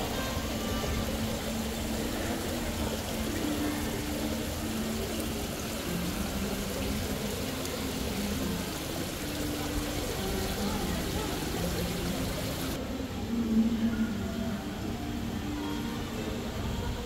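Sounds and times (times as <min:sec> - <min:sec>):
steady ambient rushing noise: 0:00.0 - 0:17.0.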